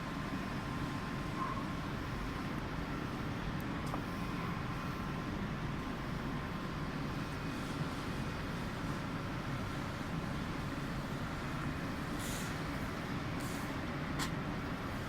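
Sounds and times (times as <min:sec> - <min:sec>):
car wash machinery drone: 0:00.0 - 0:15.0.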